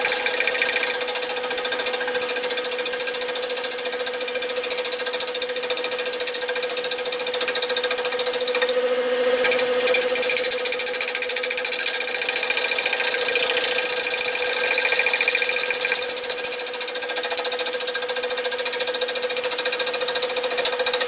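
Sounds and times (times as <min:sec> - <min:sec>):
wood lathe whining: 0:00.0 - 0:21.0.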